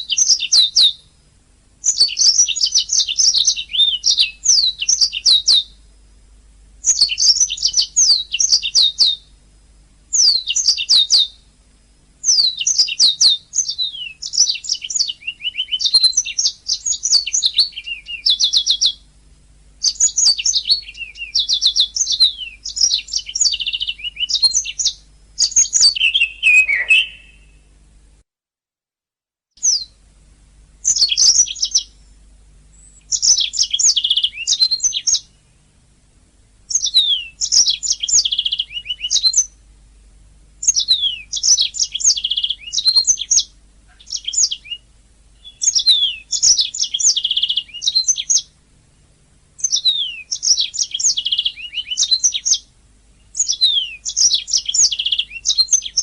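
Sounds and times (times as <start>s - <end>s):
canary singing trills: 0.0s - 1.2s, 1.8s - 5.8s, 6.8s - 9.4s, 10.1s - 11.5s, 12.2s - 19.1s, 19.8s - 27.7s, 29.6s - 30.0s, 30.8s - 35.6s, 36.7s - 39.6s, 40.6s - 48.6s, 49.6s - 56.0s.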